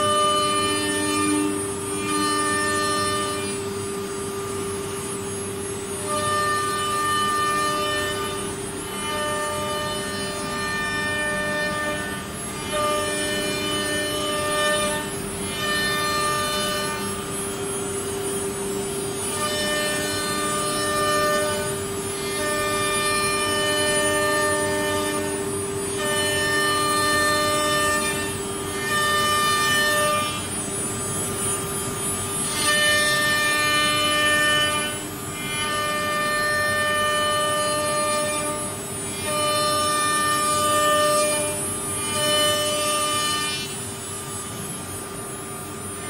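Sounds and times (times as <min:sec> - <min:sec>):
cnc router spindle whine: 0:00.0 - 0:46.0
high machine tones: 0:00.0 - 0:46.0.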